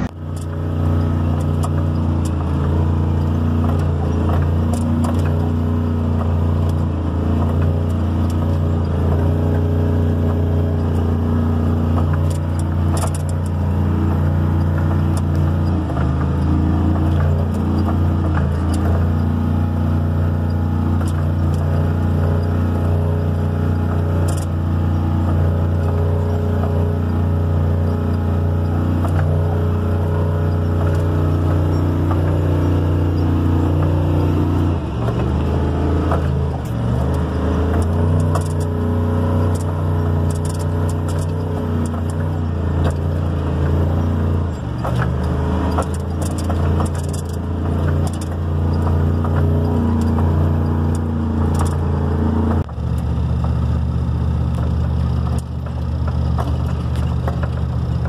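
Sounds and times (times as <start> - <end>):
sharp clicks and rattles: 0.0 - 58.0
truck engine driving fast: 0.0 - 58.0.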